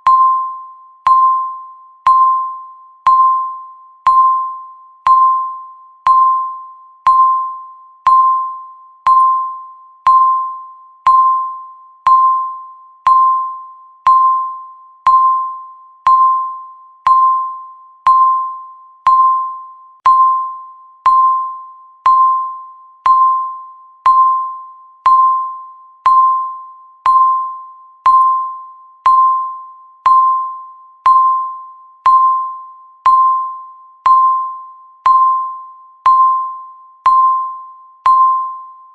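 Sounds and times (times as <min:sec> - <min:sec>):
timer tick ringing tone: 0:00.0 - 0:38.9.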